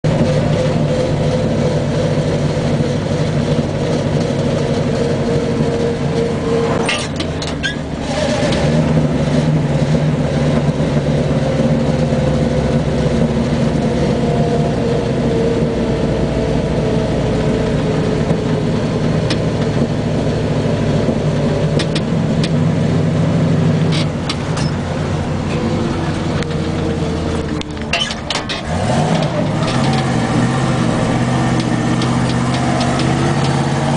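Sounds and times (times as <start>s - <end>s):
vehicle engine droning: 0.0s - 33.9s.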